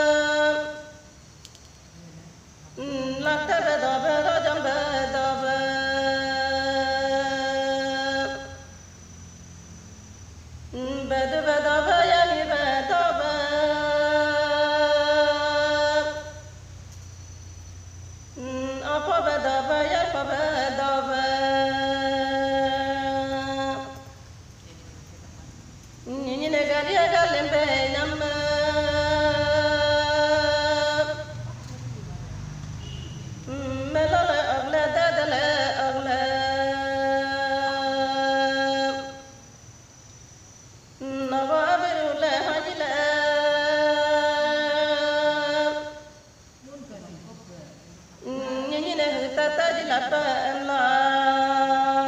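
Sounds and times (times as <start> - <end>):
woman singing unaccompanied: 0.0 - 8.8, 10.6 - 17.2, 17.9 - 39.6, 40.8 - 52.0.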